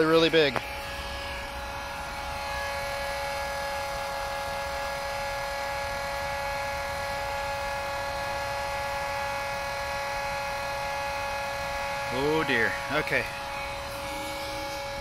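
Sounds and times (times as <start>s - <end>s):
electric blower whining: 0.0s - 15.0s.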